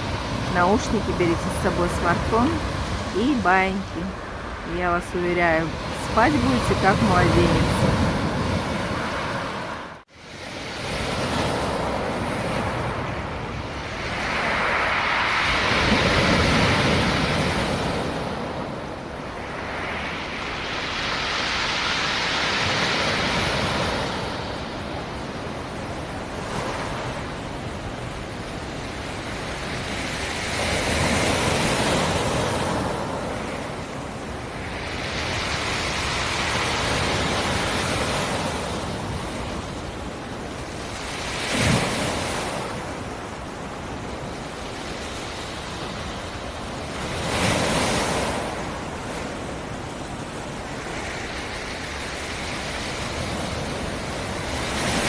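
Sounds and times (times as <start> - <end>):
waves breaking on shore: 0.0 - 55.0.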